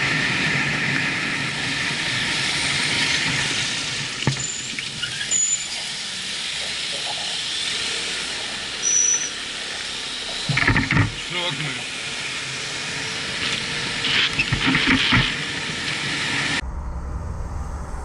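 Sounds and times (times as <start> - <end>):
motorcycle wind and road noise: 0.0 - 16.6.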